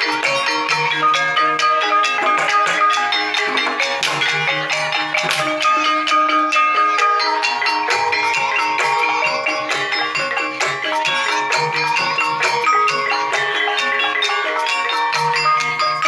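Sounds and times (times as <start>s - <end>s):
gamelan metallophones and gongs: 0.0s - 16.0s.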